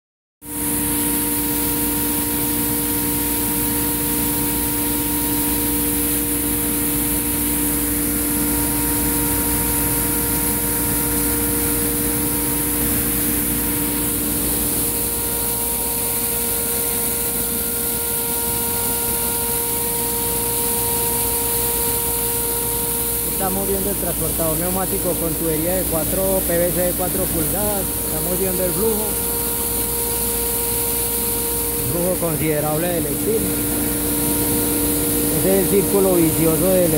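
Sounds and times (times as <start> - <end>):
fan hum and whine: 0.4 - 36.9
fan rushing air: 0.4 - 36.9.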